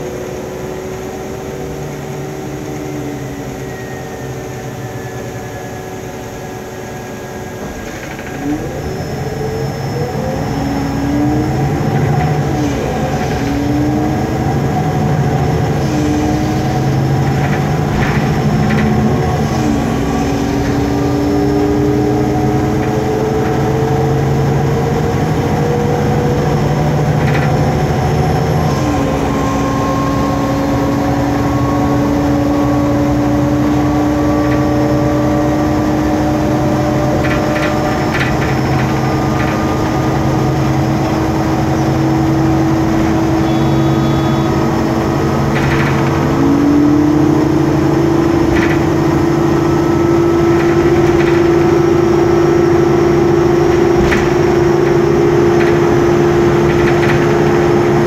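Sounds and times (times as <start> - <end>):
bus engine and gearbox whine: 0.0 - 58.0
bus fan hum and whine: 0.0 - 58.0.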